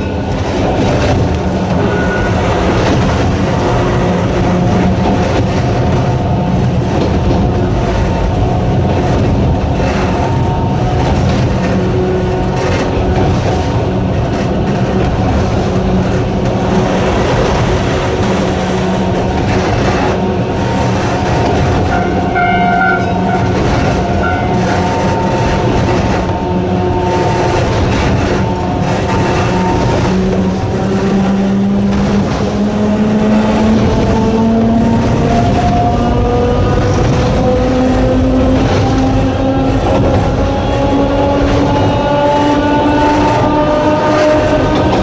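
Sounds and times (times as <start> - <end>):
electric train motor whine: 0.0 - 45.0
wheels rumbling on rail: 0.0 - 45.0.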